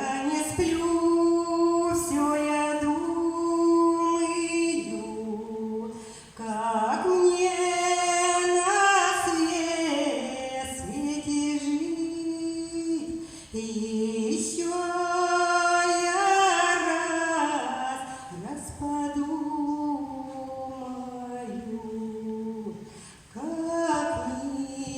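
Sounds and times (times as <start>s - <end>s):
woman singing slow song: 0.0s - 24.9s.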